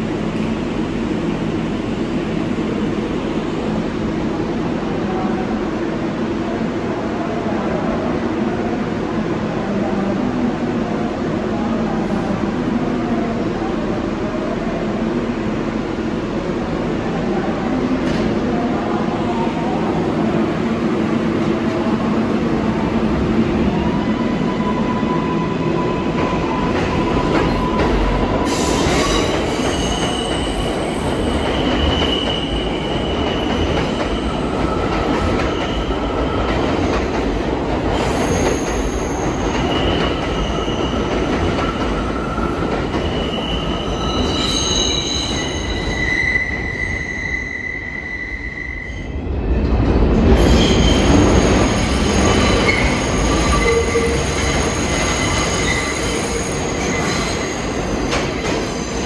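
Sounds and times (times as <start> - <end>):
subway train rail noise: 0.0 - 59.0.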